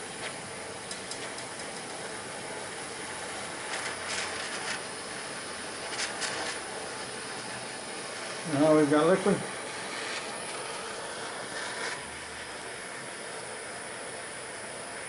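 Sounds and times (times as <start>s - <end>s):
gas torch flame hissing: 0.0s - 15.0s.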